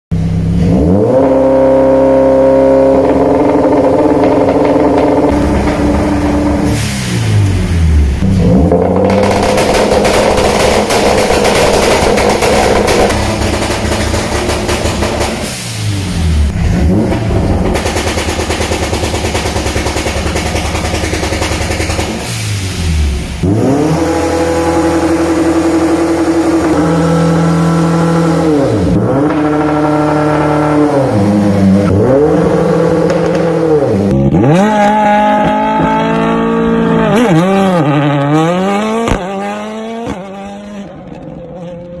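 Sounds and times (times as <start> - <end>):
car engine at rev limiter: 0.1 - 42.0
rally car accelerating: 0.2 - 42.0
exhaust crackling and popping: 1.0 - 40.2, 40.8 - 42.0.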